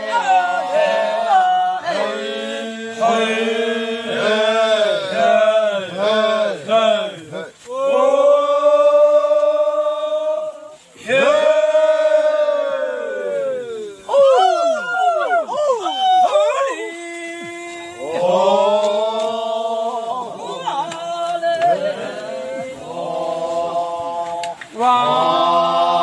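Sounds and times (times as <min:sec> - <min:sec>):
voices chanting: 0:00.0 - 0:26.0.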